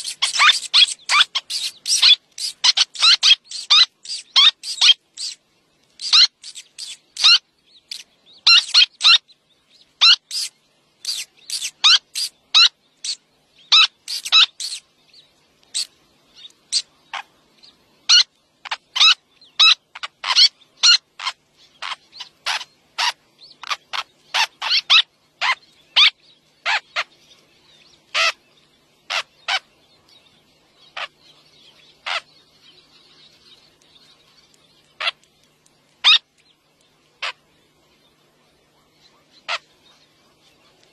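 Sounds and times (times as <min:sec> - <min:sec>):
terns chirping: 0:00.0 - 0:40.9.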